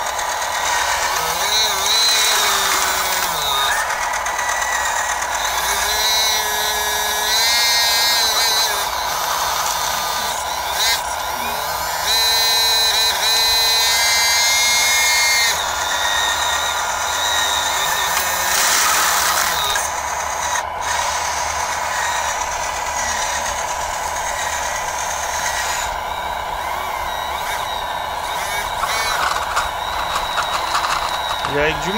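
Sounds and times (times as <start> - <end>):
hydraulic pump whining: 0.0 - 31.9.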